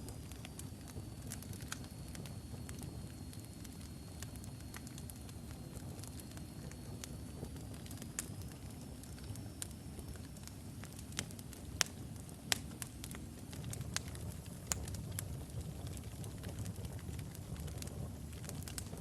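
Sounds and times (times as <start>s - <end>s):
wood logs burning and crackling: 0.0s - 19.0s.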